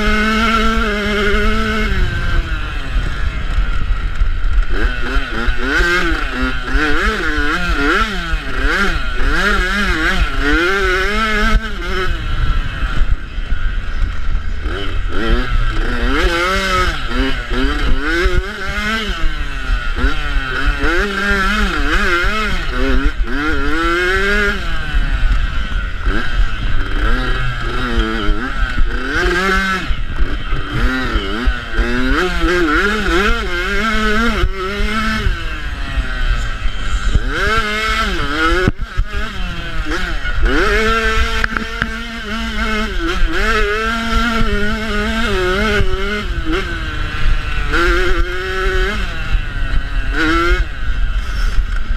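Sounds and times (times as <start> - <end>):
wind rumble on microphone: 0.0 - 9.1, 10.2 - 20.3, 21.4 - 51.9
motorbike engine revving: 0.0 - 51.9.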